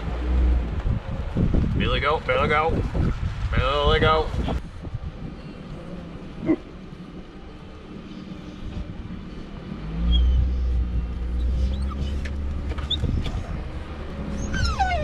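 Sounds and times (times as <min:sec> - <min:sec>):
van engine rumbling: 0:00.0 - 0:15.0.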